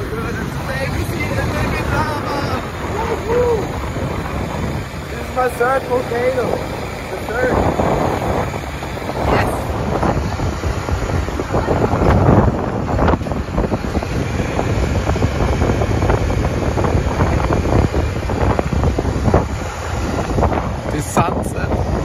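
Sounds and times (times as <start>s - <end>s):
road and motorbike noise: 0.0s - 22.0s
wind buffeting microphone: 0.0s - 22.0s.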